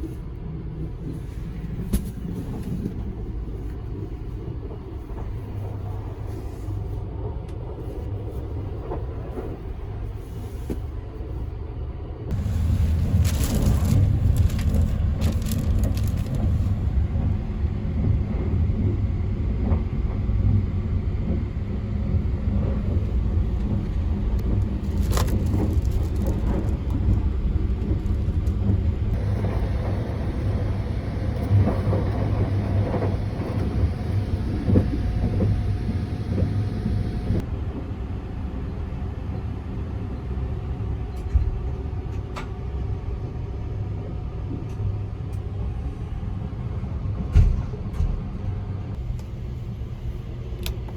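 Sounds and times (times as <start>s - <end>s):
train rumbling: 0.0s - 50.9s.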